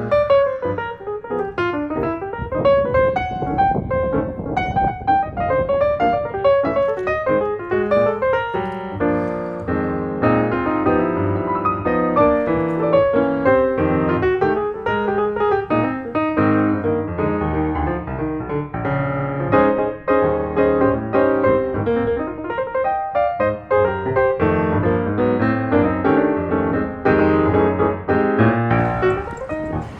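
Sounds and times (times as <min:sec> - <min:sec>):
piano piece: 0:00.0 - 0:29.9.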